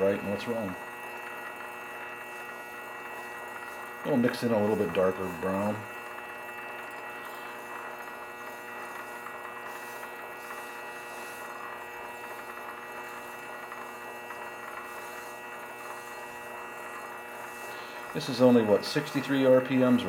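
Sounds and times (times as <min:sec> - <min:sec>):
lathe motor humming and whining: 0:00.0 - 0:20.0.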